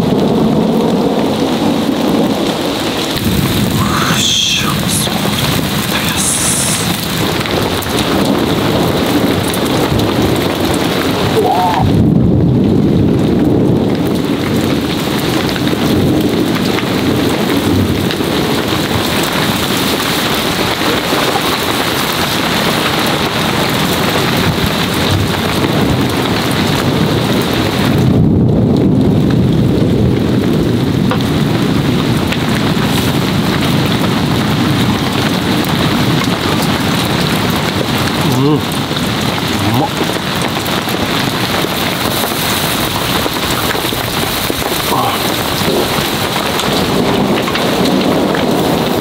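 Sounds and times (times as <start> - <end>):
heavy rain pouring: 0.0 - 49.0
thunder rolling: 0.0 - 49.0.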